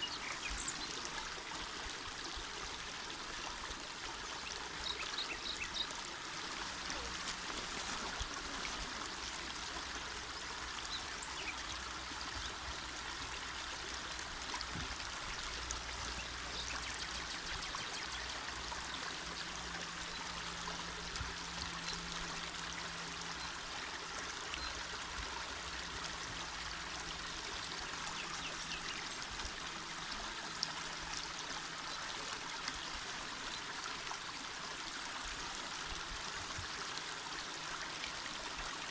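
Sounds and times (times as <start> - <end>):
river water rushing and babbling: 0.0 - 38.9.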